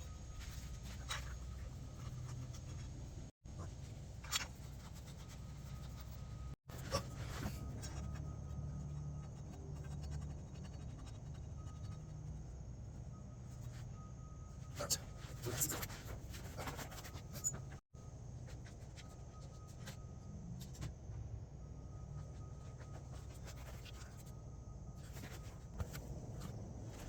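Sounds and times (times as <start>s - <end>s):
faint scratching on metal parts: 0.0s - 20.0s, 22.2s - 27.0s
steady low hum: 0.0s - 27.0s.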